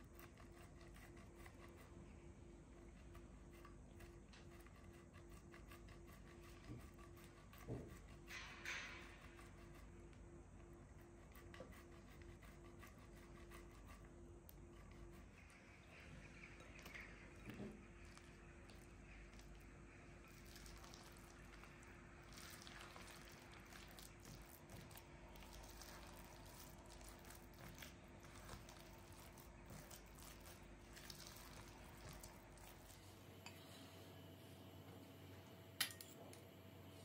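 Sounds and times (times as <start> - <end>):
spatula stirring thick batter: 0.0 - 33.7.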